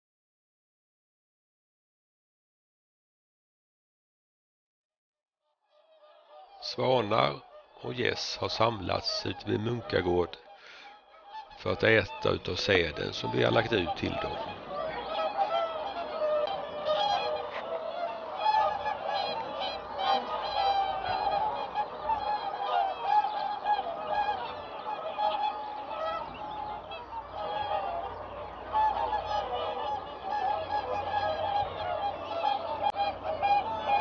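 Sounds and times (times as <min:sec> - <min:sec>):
swans and geese honking: 0:05.7 - 0:34.0.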